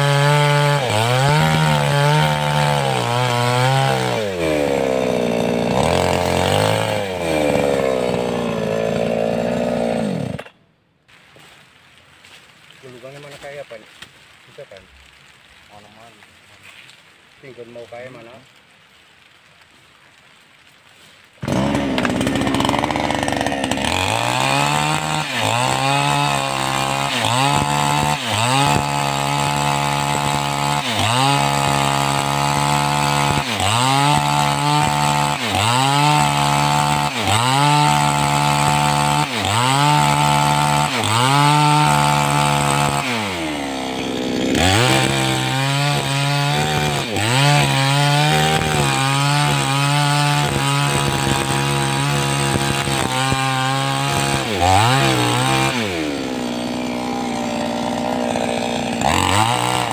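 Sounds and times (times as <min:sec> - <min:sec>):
chainsaw cutting wood: 0:00.0 - 0:10.6, 0:21.4 - 0:59.9.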